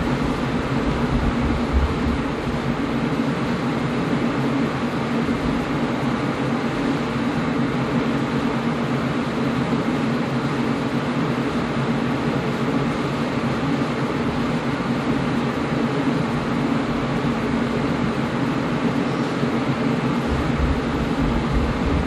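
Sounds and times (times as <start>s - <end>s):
air conditioner running: 0.0s - 22.0s.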